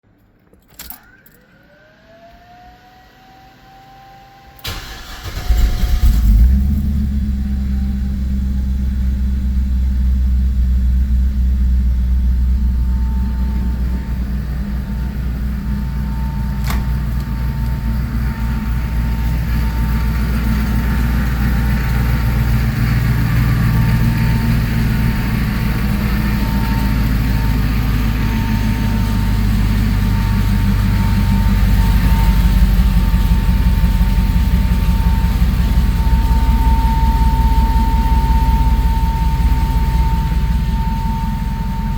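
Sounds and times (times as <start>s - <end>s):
car engine starting and idling: 4.0s - 41.9s
faint rising whine: 6.8s - 41.9s.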